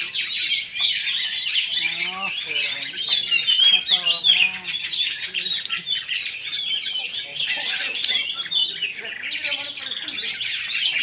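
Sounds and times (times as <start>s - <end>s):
birds singing in chorus: 0.0s - 11.0s.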